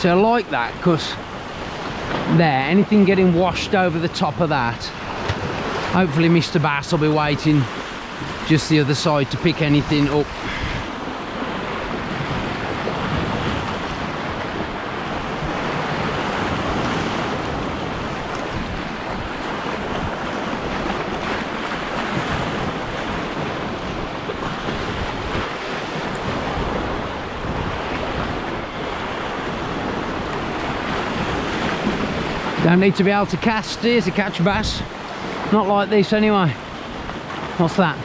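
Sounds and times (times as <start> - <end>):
wind buffeting microphone: 0.0 - 33.6
surf washing over rocks: 0.0 - 38.0.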